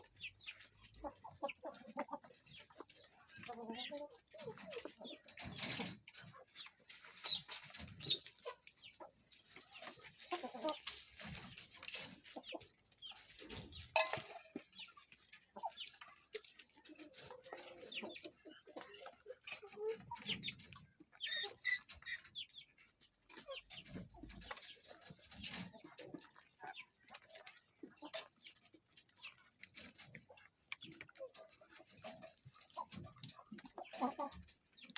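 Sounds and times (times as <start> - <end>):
pheasants clucking and chirping: 0.0 - 34.9.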